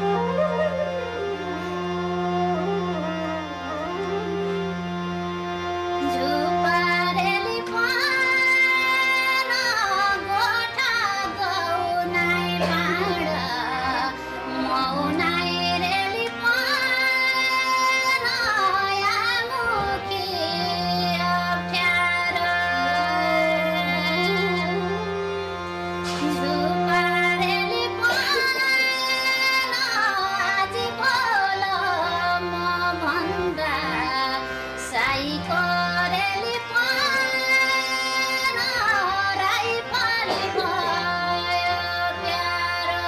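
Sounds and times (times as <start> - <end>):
low instrumental drone: 0.0 - 37.7
woman singing folk song: 6.0 - 25.2, 26.1 - 43.0.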